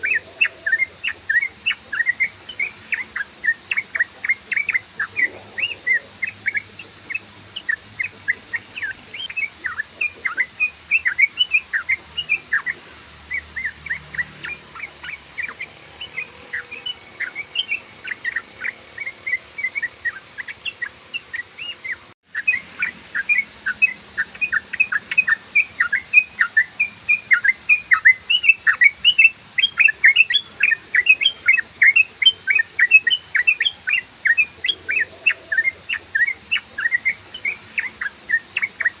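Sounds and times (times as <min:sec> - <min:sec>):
bird chattering song: 0:00.0 - 0:39.0.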